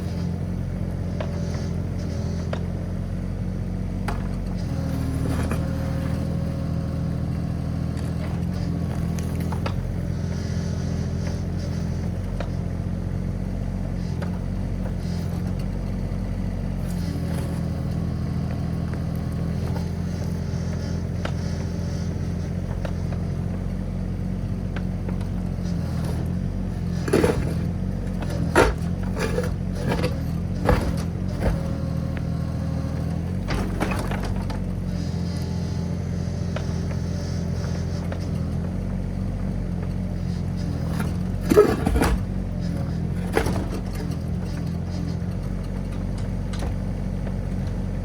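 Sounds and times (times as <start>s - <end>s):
diesel excavator engine running: 0.0s - 48.0s.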